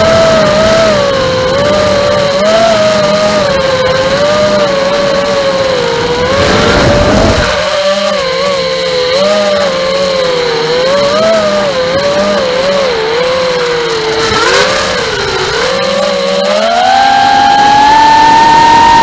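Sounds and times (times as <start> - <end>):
quadcopter propeller whine: 0.0 - 19.0.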